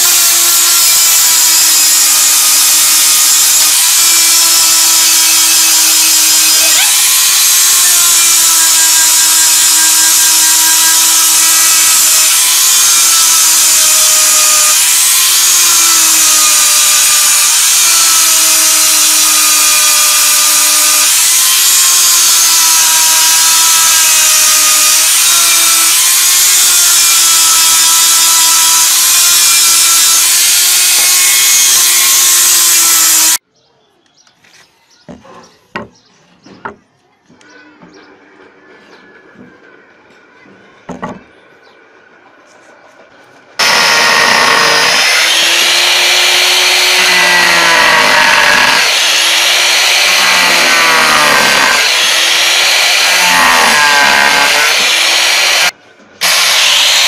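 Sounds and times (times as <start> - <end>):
angle grinder grinding steel: 0.0 - 33.4, 43.6 - 57.0.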